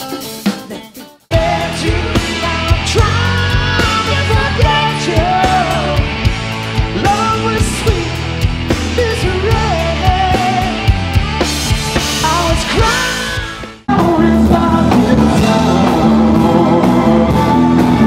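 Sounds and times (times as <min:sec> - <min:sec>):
person singing: 0:00.0 - 0:06.2, 0:08.8 - 0:11.4, 0:12.0 - 0:18.0
rock band playing: 0:00.0 - 0:18.0.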